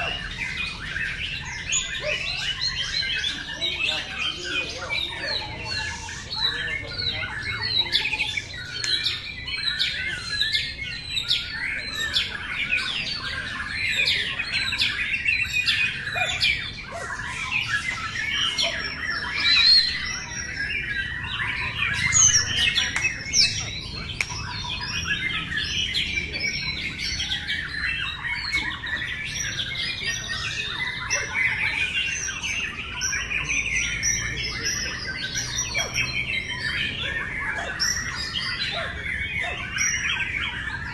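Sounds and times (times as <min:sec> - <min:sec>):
birds singing whistles and trills: 0:00.0 - 0:40.9.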